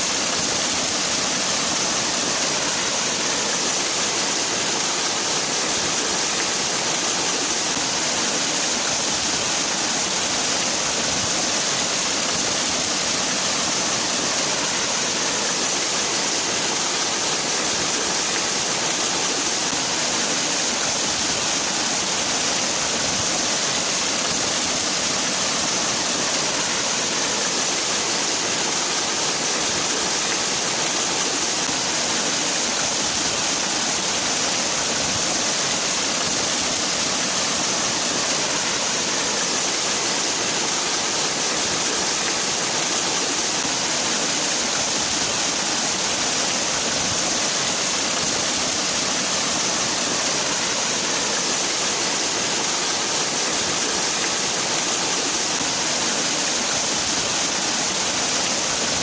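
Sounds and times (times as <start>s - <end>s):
waterfall pouring and splashing: 0.0s - 59.0s.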